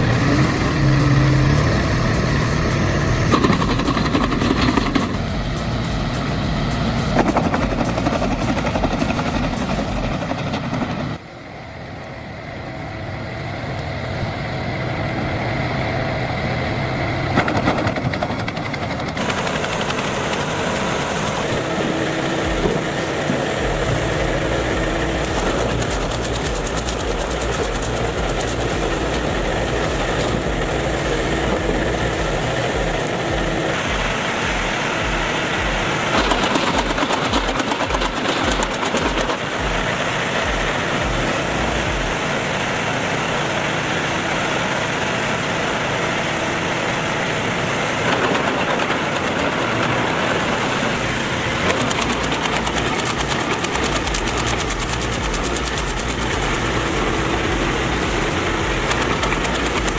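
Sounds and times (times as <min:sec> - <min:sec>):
heavy machine engine under load: 0:00.0 - 0:11.2, 0:12.2 - 0:59.9.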